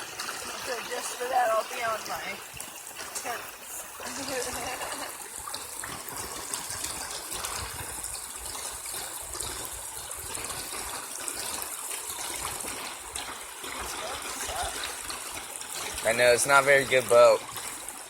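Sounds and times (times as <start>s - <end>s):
stream flowing and trickling: 0.0s - 18.0s.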